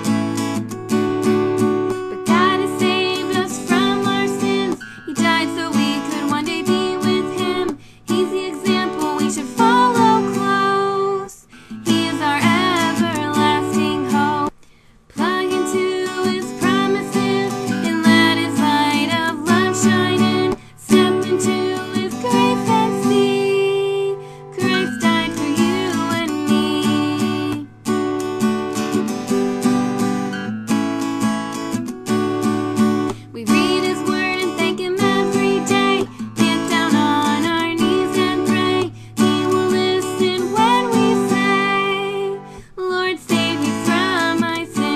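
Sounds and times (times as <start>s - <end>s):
strummed acoustic guitar: 0.0s - 44.9s
woman singing: 1.9s - 28.0s, 32.8s - 44.9s.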